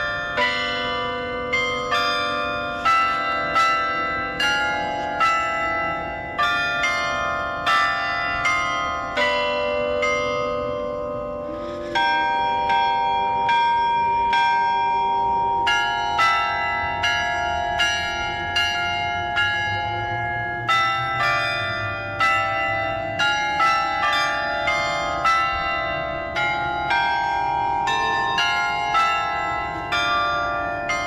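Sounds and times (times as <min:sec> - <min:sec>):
carillon bells playing melody: 0:00.0 - 0:31.0.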